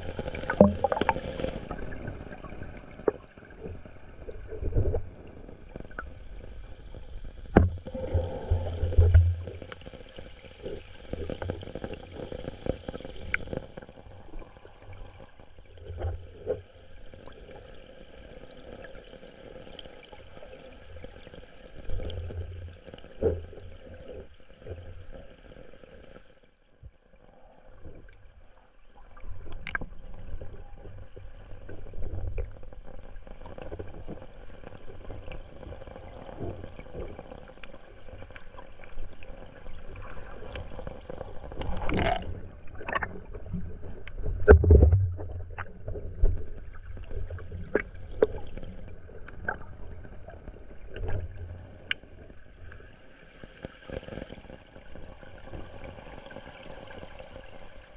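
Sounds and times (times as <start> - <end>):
muffled underwater wash: 0.0 - 57.9.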